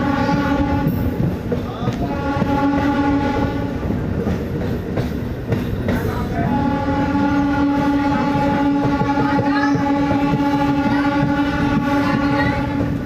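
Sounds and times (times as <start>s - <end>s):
train horn blasts: 0.0s - 3.8s, 6.2s - 13.0s
moving train rumble: 0.0s - 13.0s.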